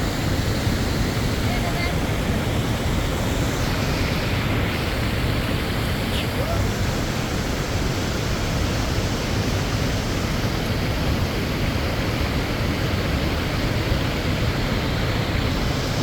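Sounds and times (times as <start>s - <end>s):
spring water flowing and splashing: 0.0s - 16.0s.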